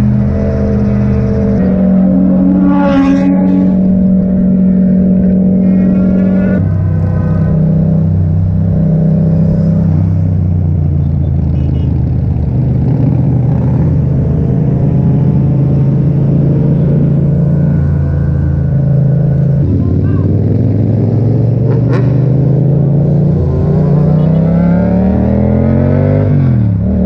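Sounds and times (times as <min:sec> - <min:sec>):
motorcycle engine running: 0:00.0 - 0:25.8.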